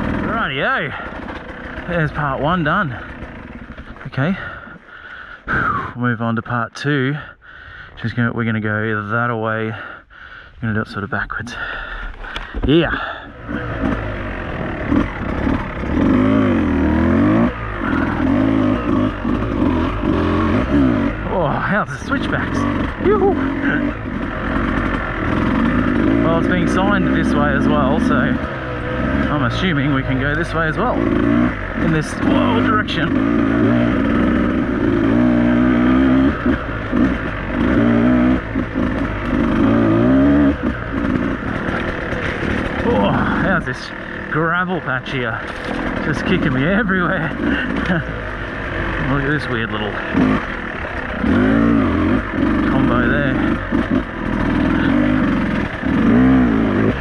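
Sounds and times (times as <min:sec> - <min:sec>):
motorcycle engine revving: 0:00.0 - 0:06.6, 0:10.8 - 0:57.0.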